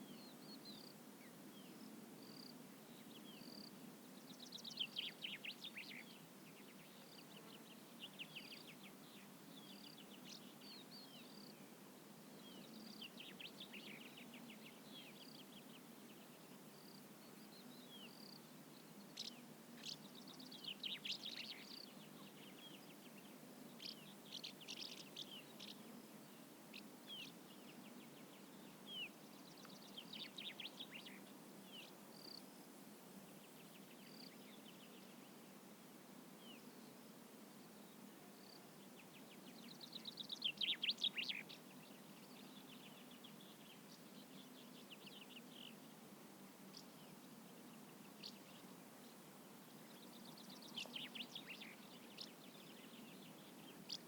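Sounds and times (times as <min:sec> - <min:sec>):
faint low background noise: 0:00.0 - 0:54.0.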